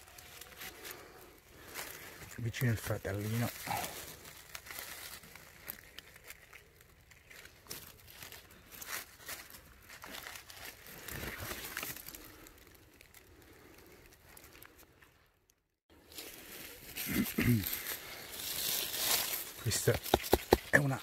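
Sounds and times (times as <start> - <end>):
dry leaves rustling: 0.0 - 14.8, 15.9 - 21.0.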